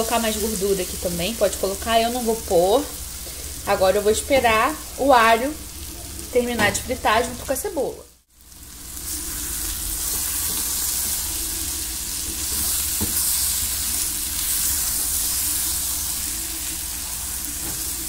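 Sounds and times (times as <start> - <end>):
food sizzling in frying pan: 0.0 - 18.0.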